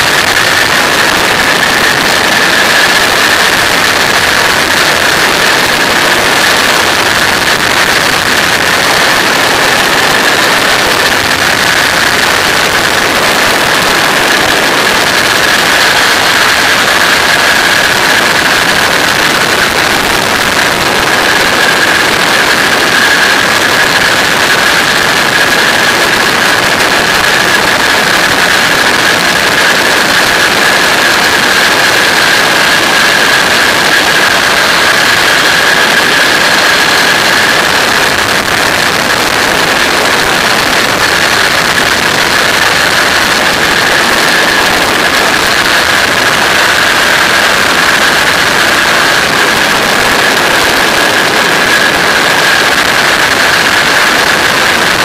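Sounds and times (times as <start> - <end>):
aircraft engine droning: 0.0 - 55.0
wind rushing on microphone: 0.0 - 55.0.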